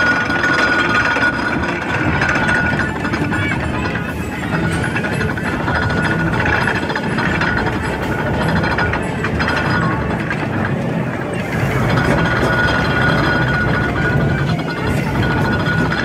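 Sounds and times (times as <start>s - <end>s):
steam traction engine clanking: 0.0s - 16.0s.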